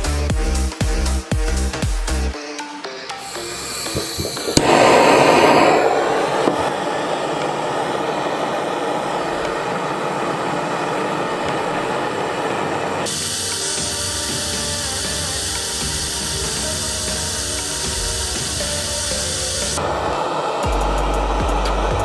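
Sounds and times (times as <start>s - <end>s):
blow torch hissing roar: 3.2s - 22.0s.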